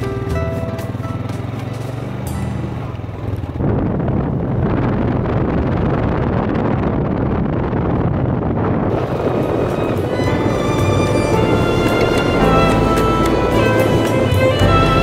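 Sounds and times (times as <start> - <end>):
quad bike engine running: 0.0 - 15.0
wind buffeting microphone: 0.4 - 15.0.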